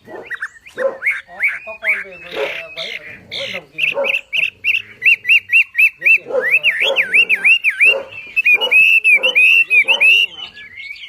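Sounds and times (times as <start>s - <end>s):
harsh rasping bird notes: 0.0s - 11.0s
songbird singing: 0.0s - 11.0s.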